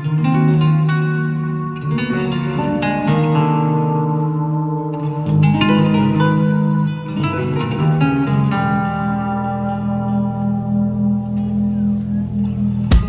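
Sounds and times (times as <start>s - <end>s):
fingerstyle electric guitar: 0.0s - 13.0s.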